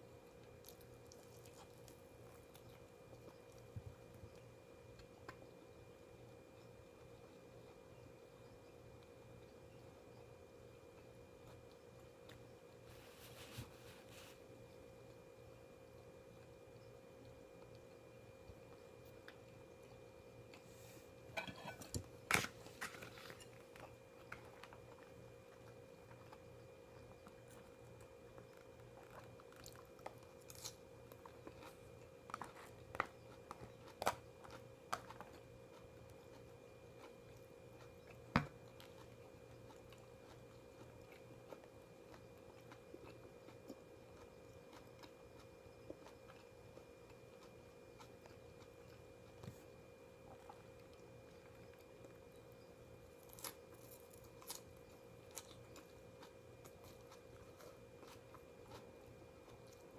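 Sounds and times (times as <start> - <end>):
faint hum: 0.0 - 59.9
person chewing food: 0.4 - 5.7, 16.0 - 59.9.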